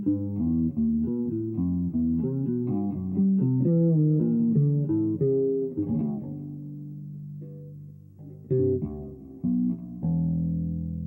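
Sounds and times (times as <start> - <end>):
plucked guitar: 0.0 - 11.0.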